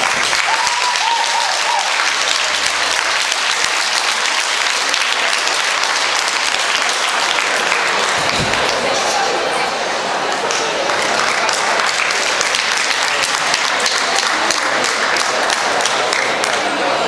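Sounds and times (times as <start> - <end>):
spectators applauding: 0.0 - 9.3, 10.2 - 17.0.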